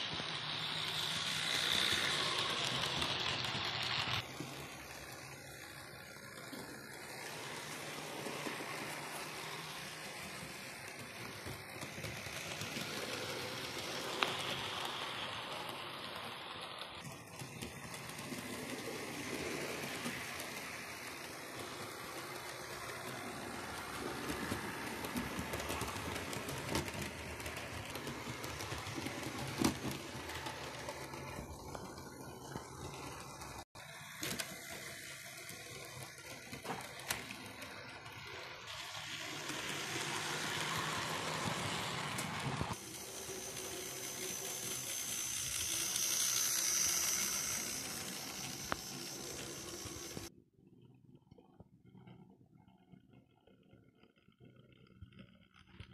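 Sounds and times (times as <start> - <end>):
model train motor whirring: 0.0 - 50.3.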